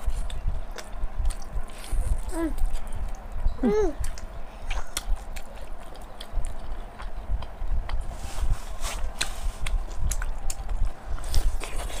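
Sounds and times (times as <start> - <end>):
chewing food: 0.0 - 3.3, 4.0 - 8.1, 9.1 - 12.0.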